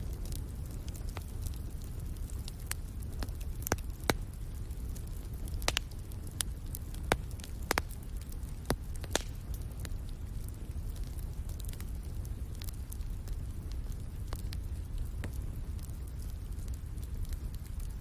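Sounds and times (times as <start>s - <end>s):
low rumble of flames: 0.0s - 18.0s
wood fire popping and snapping: 0.0s - 18.0s.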